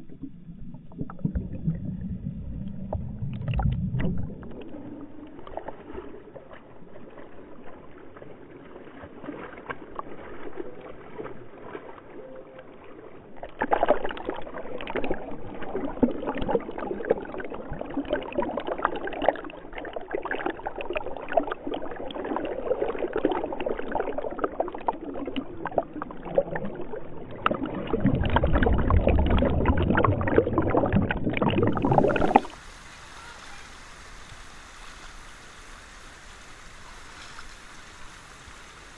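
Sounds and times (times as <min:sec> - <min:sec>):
muffled underwater river rushing: 0:00.0 - 0:38.9.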